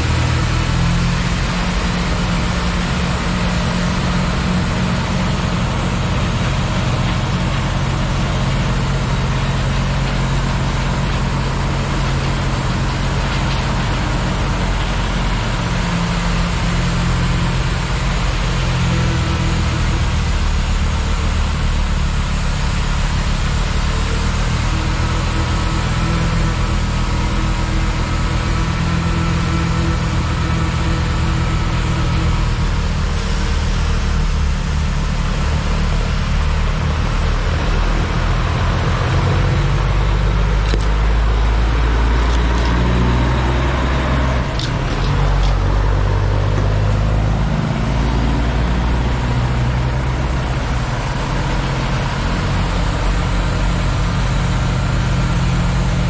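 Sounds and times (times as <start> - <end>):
dump truck driving past: 0.0 - 56.0
heavy diesel engines running: 0.0 - 56.0.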